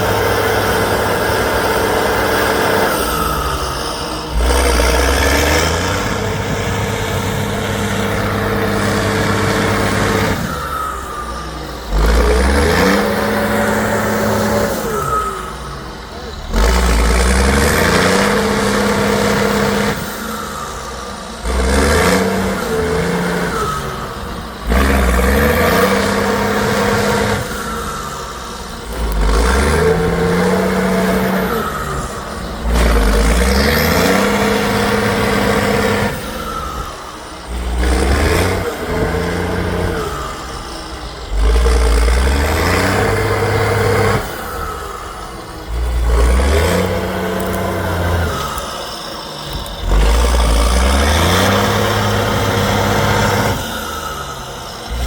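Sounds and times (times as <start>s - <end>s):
truck engine revving hard: 0.0s - 55.0s.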